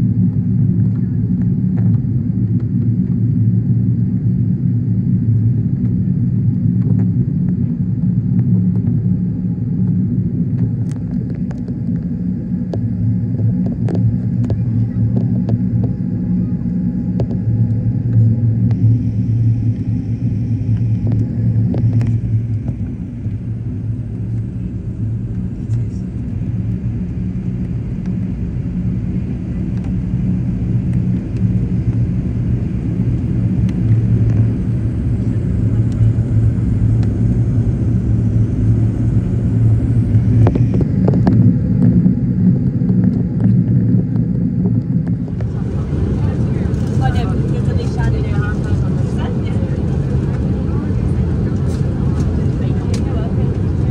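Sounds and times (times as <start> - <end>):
airplane cabin engine rumble: 0.0 - 53.9.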